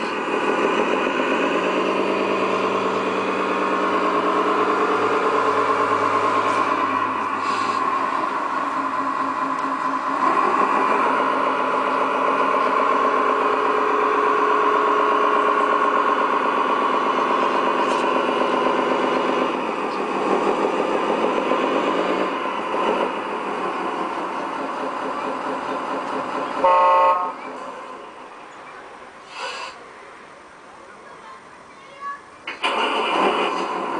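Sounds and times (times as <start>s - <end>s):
electronic engine sound idling: 0.0s - 28.6s.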